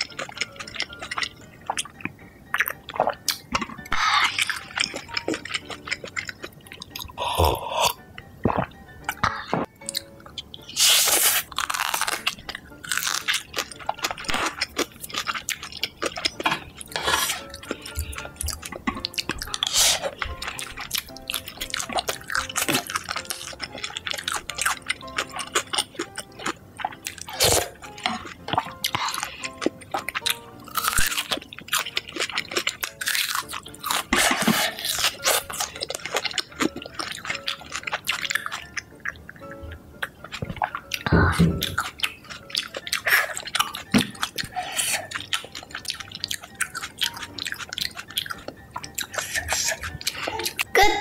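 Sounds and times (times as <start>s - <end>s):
background music: 0.0s - 51.0s
chewing and crunching food: 0.0s - 51.0s.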